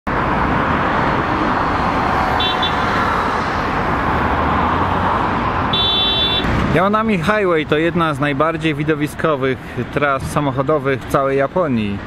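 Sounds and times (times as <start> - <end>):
passing vehicles rushing: 0.1 - 12.0.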